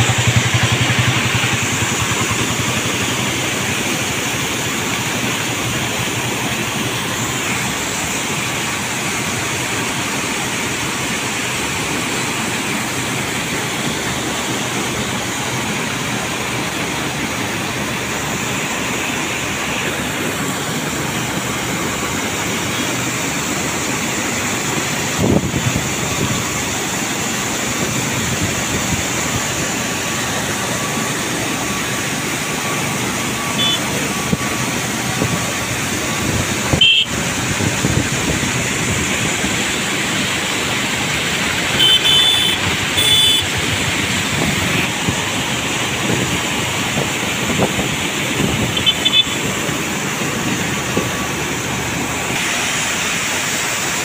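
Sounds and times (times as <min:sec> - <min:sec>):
pump machinery running: 0:00.0 - 0:54.0
water jets crashing into river: 0:00.0 - 0:54.0.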